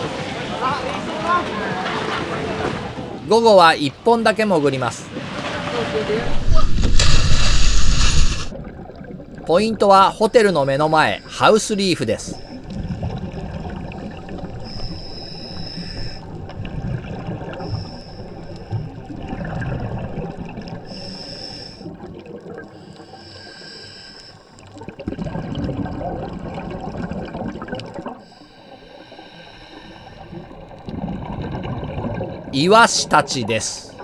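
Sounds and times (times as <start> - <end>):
exhaled air bubbling: 6.2 - 34.0.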